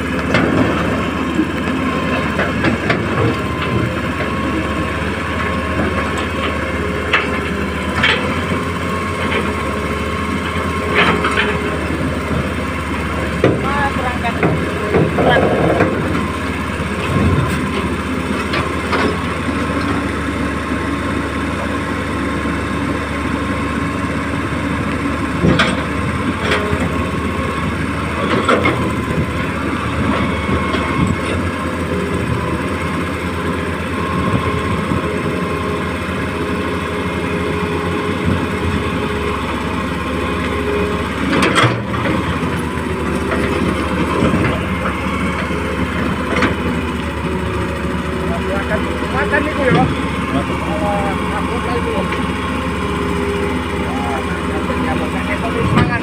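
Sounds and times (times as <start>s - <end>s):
excavator mechanical drone: 0.0s - 56.0s.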